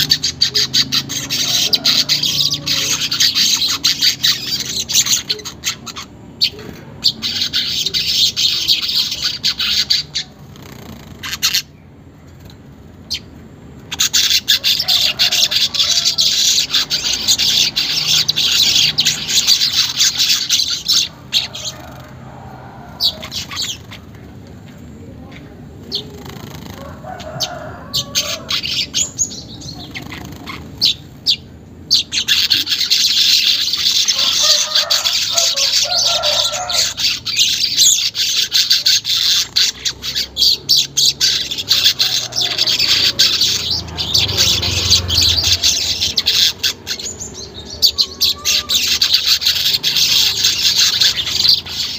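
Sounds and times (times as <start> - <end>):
bird chirps and squeaks: 0.0 - 22.1, 22.9 - 51.9
bird chattering song: 0.0 - 51.9.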